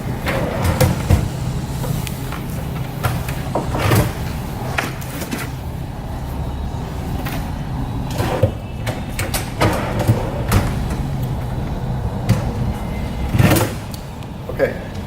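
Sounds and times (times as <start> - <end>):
metal drawers sliding: 0.0 - 5.6, 6.9 - 14.0.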